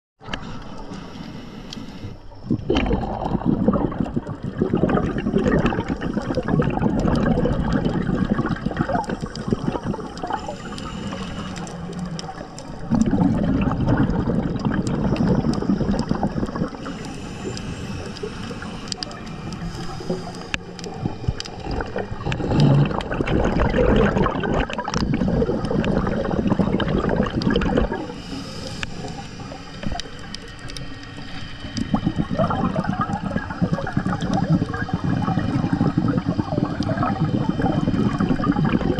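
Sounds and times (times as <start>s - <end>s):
underwater exhaled bubbles rushing: 2.3s - 38.9s.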